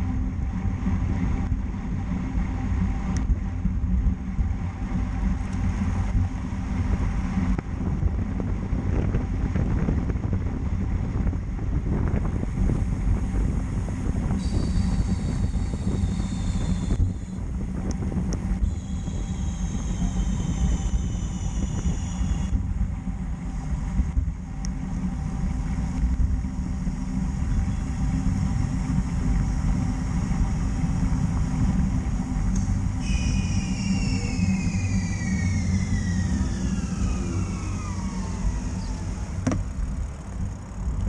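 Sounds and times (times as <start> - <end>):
high whine falling in pitch: 0.0 - 41.0
wind buffeting microphone: 0.0 - 41.0.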